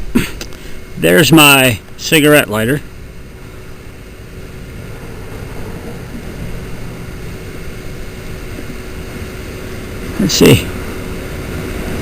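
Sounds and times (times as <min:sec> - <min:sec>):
faint constant tone: 0:00.0 - 0:12.0
low mechanical drone: 0:00.0 - 0:12.0.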